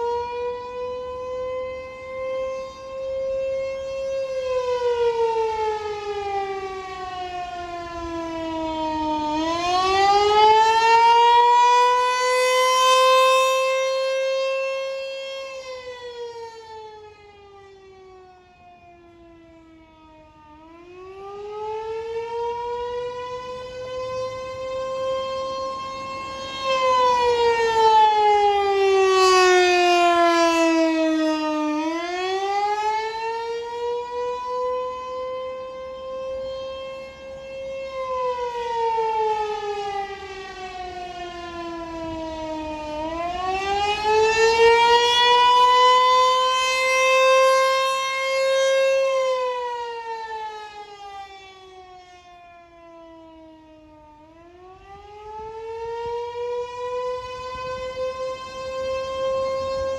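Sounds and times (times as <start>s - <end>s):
tornado warning siren wailing: 0.0s - 59.9s.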